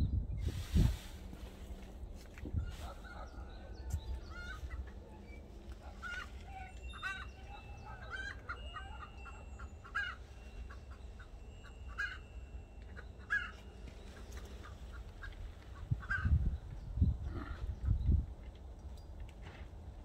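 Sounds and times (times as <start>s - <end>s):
birds calling harshly: 1.4s - 18.2s.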